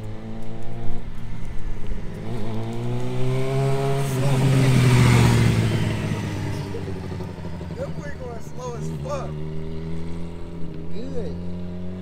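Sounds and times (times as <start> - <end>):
dirt bike idling: 0.0 - 12.0
sport bike passing by: 0.0 - 12.0.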